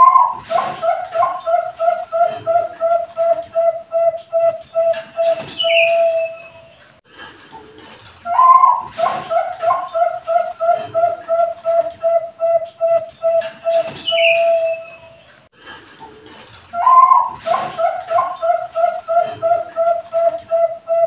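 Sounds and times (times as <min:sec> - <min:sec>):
dove cooing: 0:00.0 - 0:06.8, 0:08.3 - 0:15.2, 0:16.8 - 0:21.0.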